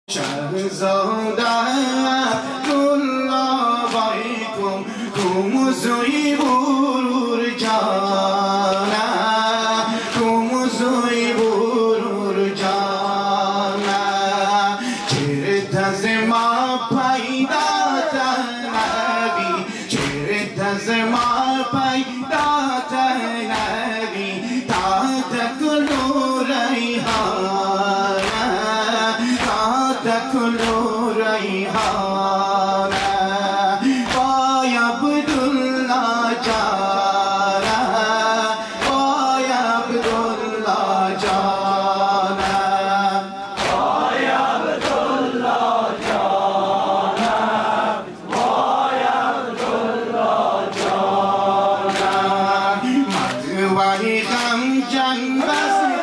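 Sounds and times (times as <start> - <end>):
man chanting into microphone: 0.0 - 56.0
men singing together: 0.1 - 56.0
rhythmic chest slapping: 0.1 - 56.0.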